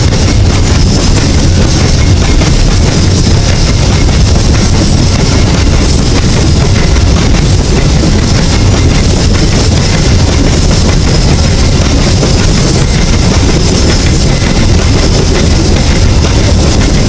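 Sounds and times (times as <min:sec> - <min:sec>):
train wagons rumbling on rails: 0:00.0 - 0:17.0.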